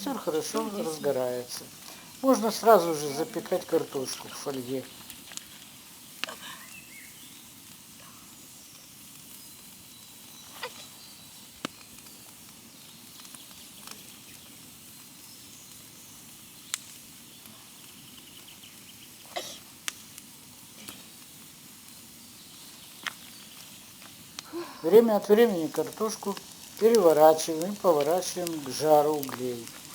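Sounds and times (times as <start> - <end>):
campfire hissing: 0.0 - 29.9
campfire pops and crackles: 0.0 - 29.9.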